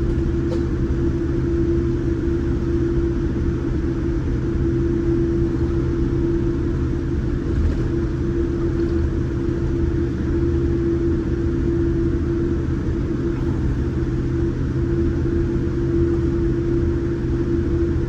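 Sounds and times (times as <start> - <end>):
steady hum: 0.0 - 16.7
airplane cabin engine rumble: 0.0 - 18.0.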